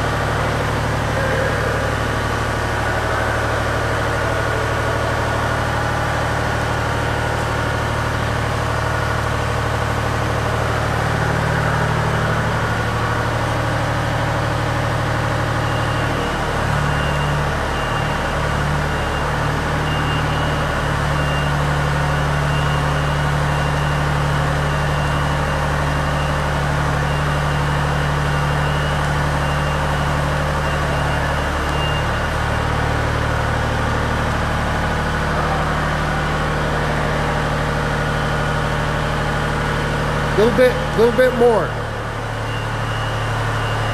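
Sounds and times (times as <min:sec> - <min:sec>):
boom lift engine running: 0:00.0 - 0:43.9.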